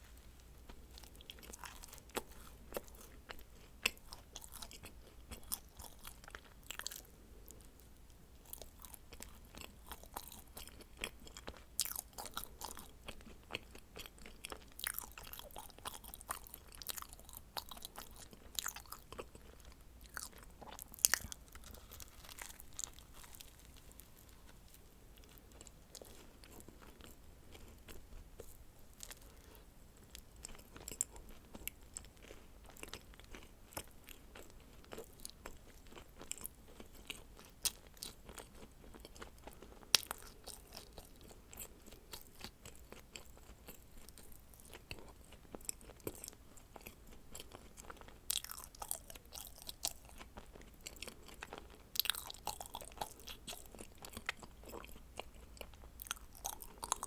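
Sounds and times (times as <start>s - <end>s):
crisp crunches of chewing: 0.0s - 57.0s.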